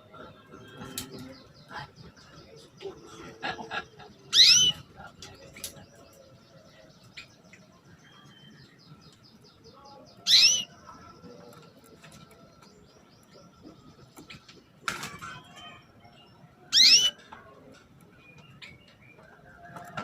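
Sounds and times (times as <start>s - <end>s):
canary chirps: 3.6s - 19.9s.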